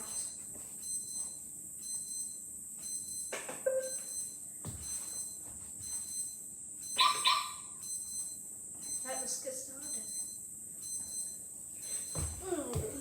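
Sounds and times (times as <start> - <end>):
alarm beeping: 0.0 - 13.0.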